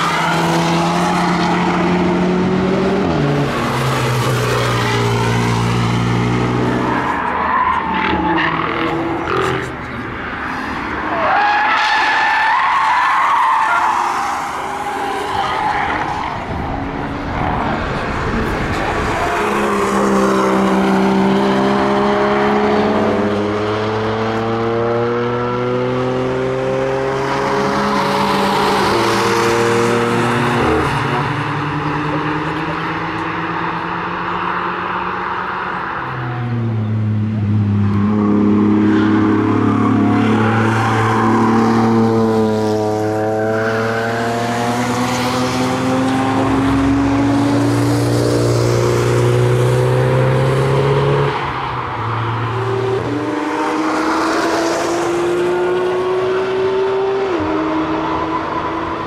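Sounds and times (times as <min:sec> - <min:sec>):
car engines driven hard: 0:00.0 - 0:59.0.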